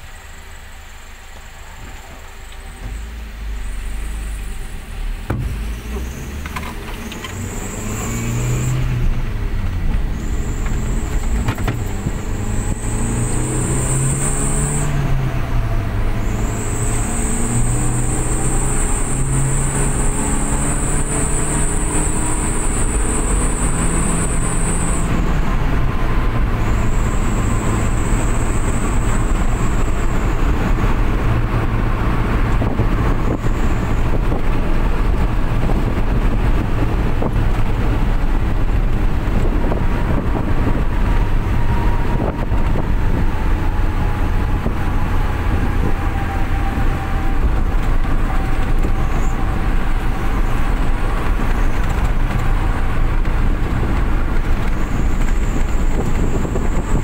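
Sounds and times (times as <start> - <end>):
engine accelerating hard: 0.0 - 57.0
high whine under throttle: 0.0 - 57.0.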